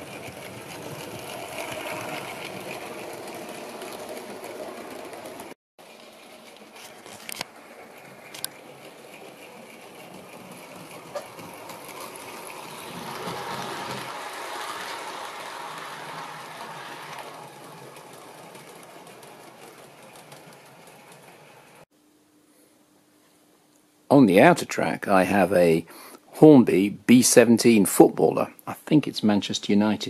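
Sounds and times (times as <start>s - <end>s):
model train wheels on rails: 0.0s - 21.9s, 26.7s - 30.0s.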